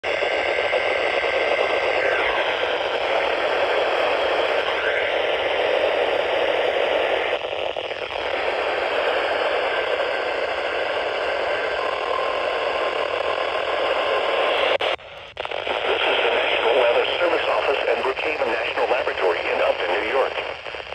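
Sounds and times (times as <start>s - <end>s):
radio static hiss: 0.0s - 20.9s.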